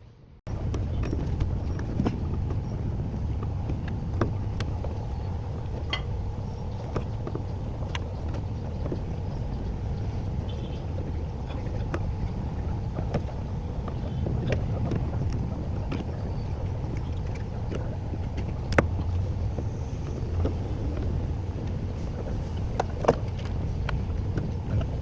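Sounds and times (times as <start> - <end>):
car rumbling on the move: 0.5 - 25.0.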